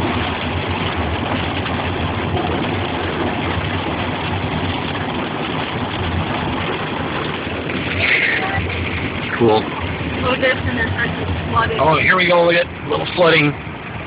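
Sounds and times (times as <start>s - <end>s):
car engine hum: 0.0s - 14.0s
tyres on wet road: 0.0s - 14.0s.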